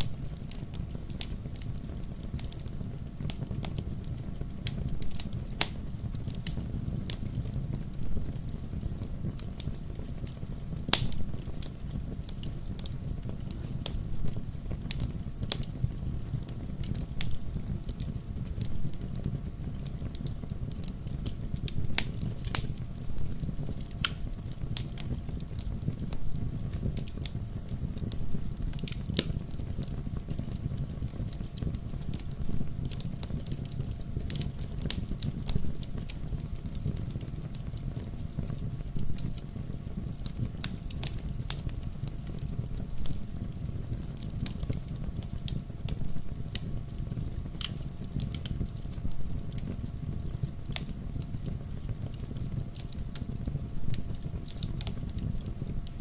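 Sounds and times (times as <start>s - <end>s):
fire pops and snaps: 0.0s - 56.0s
low rumble of flame: 0.0s - 56.0s.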